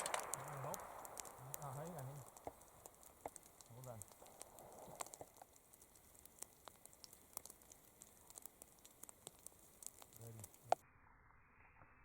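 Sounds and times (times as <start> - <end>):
faint clicks and ticks: 0.0 - 10.8
low hiss: 0.0 - 12.0.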